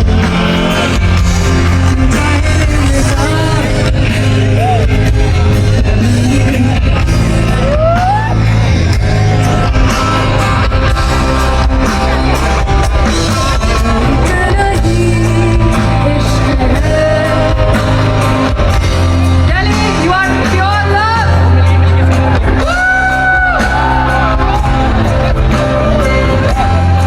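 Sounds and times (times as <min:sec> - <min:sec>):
heavy bass line: 0:00.0 - 0:27.0
loud music with singing: 0:00.0 - 0:27.0.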